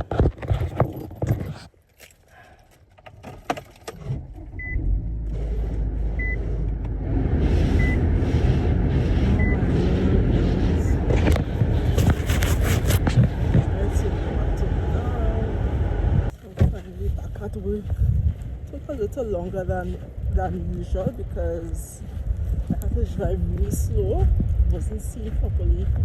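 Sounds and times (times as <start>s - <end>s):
car engine starting and running: 2.9s - 25.6s.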